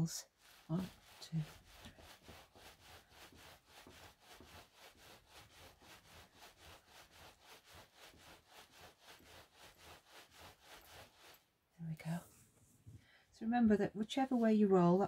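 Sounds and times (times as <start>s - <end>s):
rhythmic rubbing of rolled towel: 0.0s - 12.1s, 13.6s - 15.0s.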